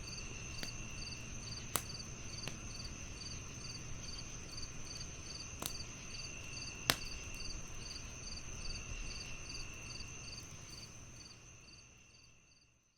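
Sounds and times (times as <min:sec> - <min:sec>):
wood fire popping: 0:00.0 - 0:10.6
crickets chirping: 0:00.0 - 0:12.9.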